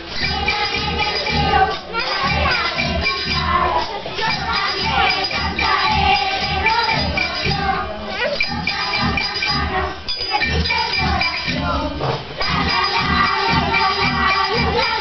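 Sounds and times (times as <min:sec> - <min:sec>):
children singing: 0:00.0 - 0:15.0
tambourines jingling: 0:00.0 - 0:15.0.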